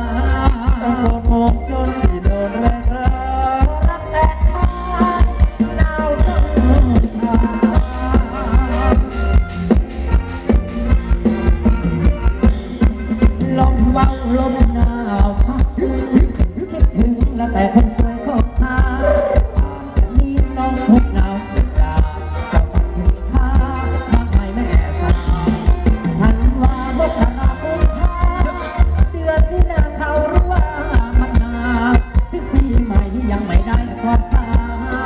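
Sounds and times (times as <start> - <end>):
heavy drum beat: 0.0 - 35.0
live band dance music: 0.0 - 35.0.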